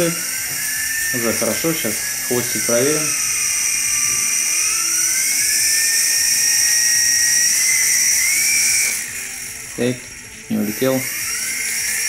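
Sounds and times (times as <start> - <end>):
dipping and climbing motor tone: 0.0 - 12.0
electric motor whine: 0.0 - 12.0.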